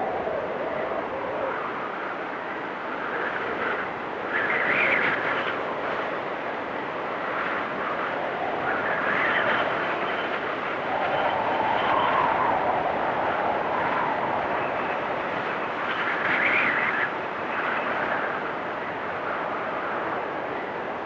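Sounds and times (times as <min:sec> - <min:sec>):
blizzard wind gusting and howling: 0:00.0 - 0:21.0.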